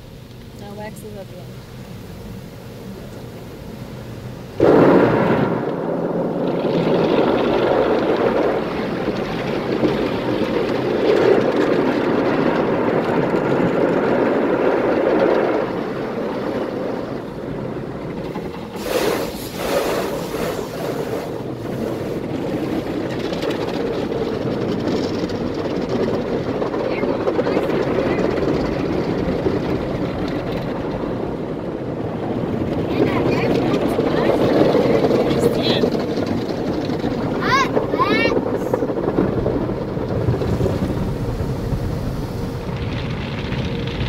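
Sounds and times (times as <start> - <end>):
car wash spraying water: 0.0 - 44.0.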